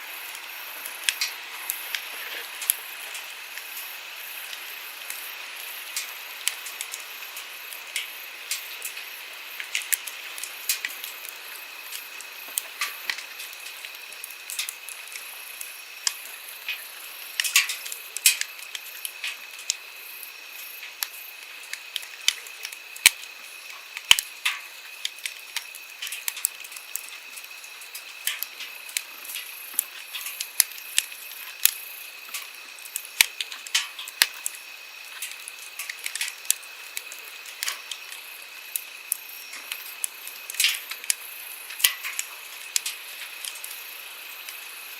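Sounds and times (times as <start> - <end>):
campfire crackling and popping: 0.1 - 44.9.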